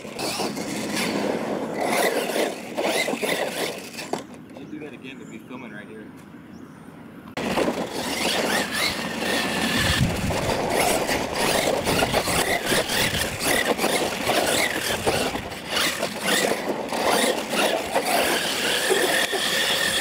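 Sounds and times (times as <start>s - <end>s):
electric motor whining: 0.0s - 4.4s, 7.4s - 20.0s
tyres skidding on loose dirt: 0.0s - 5.1s, 7.4s - 20.0s.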